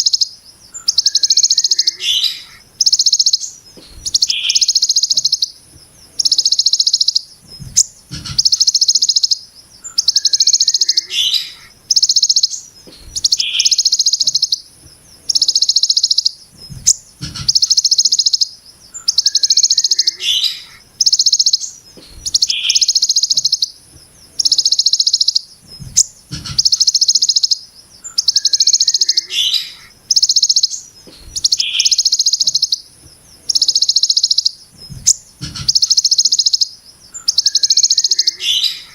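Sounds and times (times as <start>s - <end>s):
bird harsh buzzy call: 0.0s - 38.9s
faint bird chirps: 0.0s - 38.9s.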